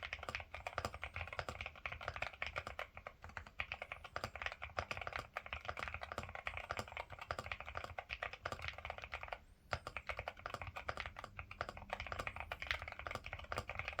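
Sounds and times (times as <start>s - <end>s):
mechanical keyboard typing: 0.0s - 14.0s.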